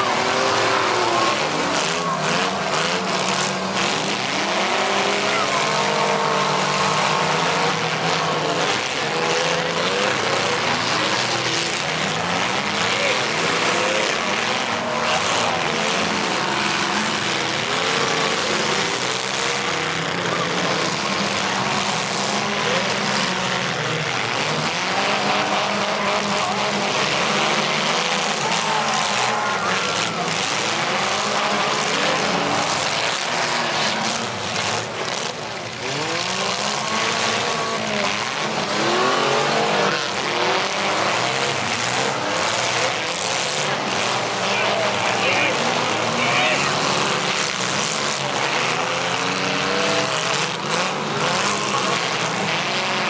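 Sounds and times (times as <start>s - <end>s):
car engines revving hard: 0.0s - 53.0s.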